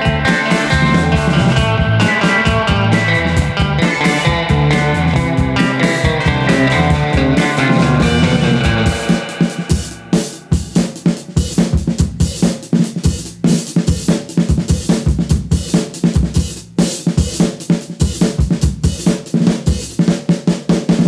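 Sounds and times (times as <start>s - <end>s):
band instruments: 0.0s - 21.0s
rock drum kit playing: 0.0s - 21.0s.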